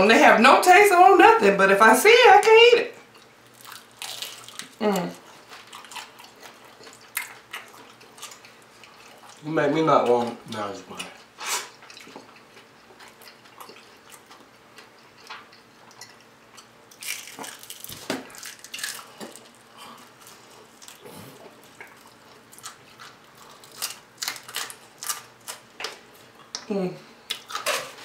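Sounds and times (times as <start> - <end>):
crunching and chewing food: 3.0 - 28.0.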